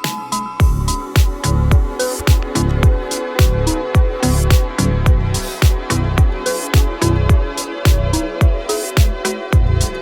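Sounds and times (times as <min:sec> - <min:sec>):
hi-hat and snare hits: 0:00.0 - 0:10.0
kick drum thumping: 0:00.6 - 0:09.8.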